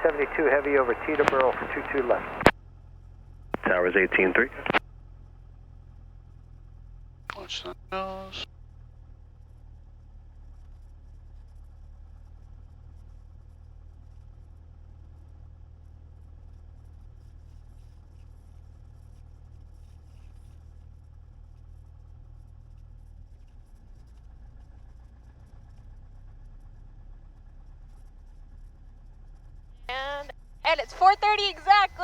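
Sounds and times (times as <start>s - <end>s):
small plane engine idling drone: 0.0s - 32.0s.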